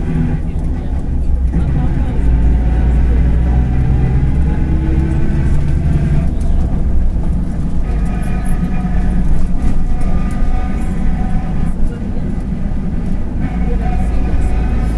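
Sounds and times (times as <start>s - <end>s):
bus diesel engine rumble: 0.0s - 14.9s.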